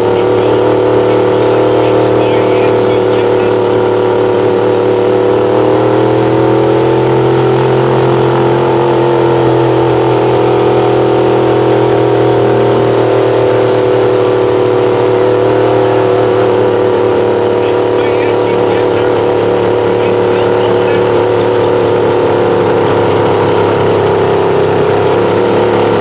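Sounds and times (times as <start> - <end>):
truck engine at high revs: 0.0 - 26.0.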